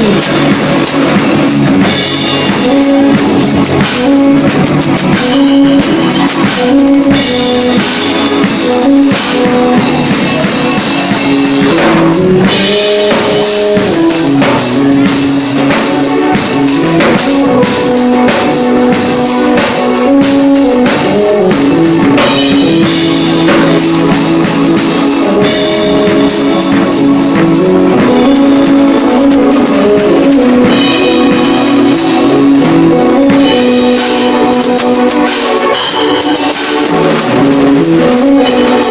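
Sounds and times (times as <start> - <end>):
electronic keyboard music: 0.0 - 38.9.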